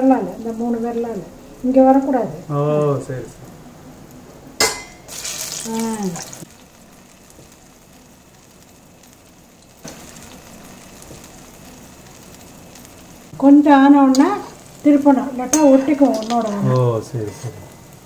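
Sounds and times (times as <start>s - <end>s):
batter deep-frying in oil: 0.0s - 18.0s.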